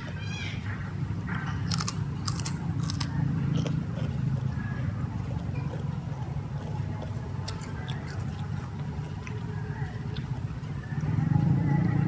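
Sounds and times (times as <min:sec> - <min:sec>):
low background hum: 0:00.0 - 0:12.0
chewing crunchy fruit: 0:00.8 - 0:12.0.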